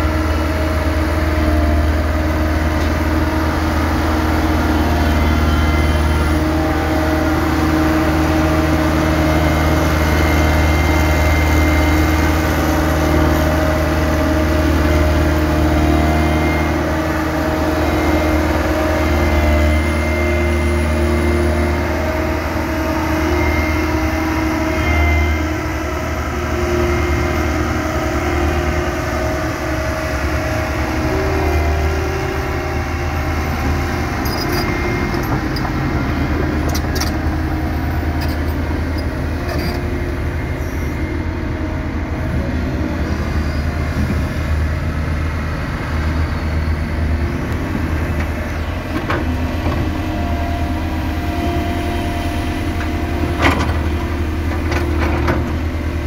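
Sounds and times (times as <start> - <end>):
diesel engines droning: 0.0 - 56.0.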